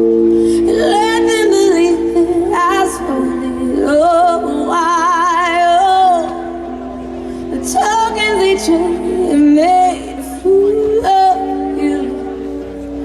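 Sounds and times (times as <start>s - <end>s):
woman singing with vibrato: 0.0s - 6.6s, 7.3s - 13.0s
rock band sustained chords: 0.0s - 13.0s.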